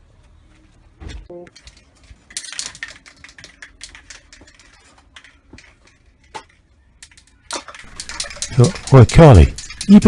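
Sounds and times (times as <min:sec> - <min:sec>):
spray cans clicking and rattling: 0:01.5 - 0:10.0.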